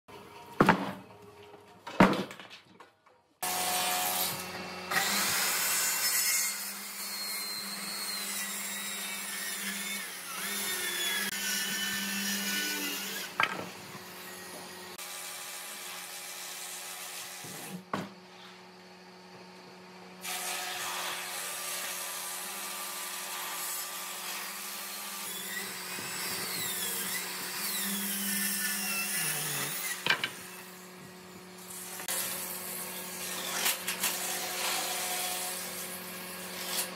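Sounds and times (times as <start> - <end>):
circular saw cutting wood: 3.4 - 17.9, 20.2 - 36.9
power tools on timber: 3.4 - 18.5, 20.2 - 36.9.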